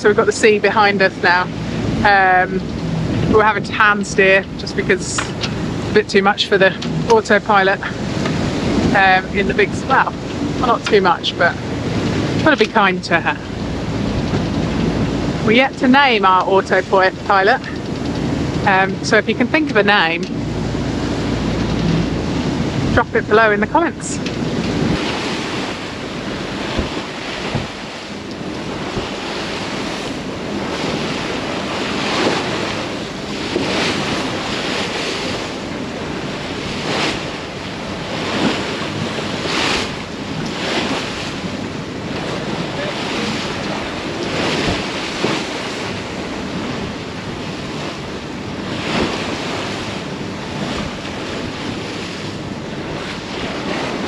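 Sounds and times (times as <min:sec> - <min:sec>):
sea waves splashing past hull: 0:00.0 - 0:54.0
wind buffeting microphone: 0:00.0 - 0:54.0.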